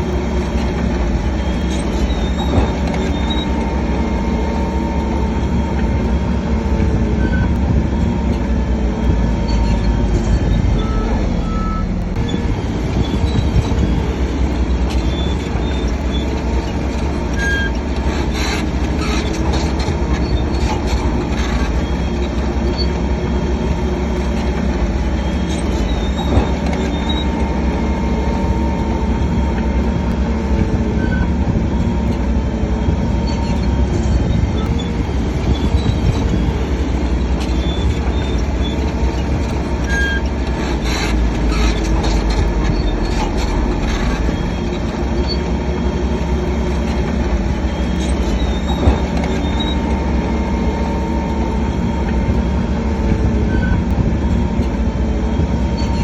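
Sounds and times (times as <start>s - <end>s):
bulldozer diesel engine running: 0.0s - 56.0s
metallic squeaks: 0.2s - 6.3s, 7.1s - 56.0s.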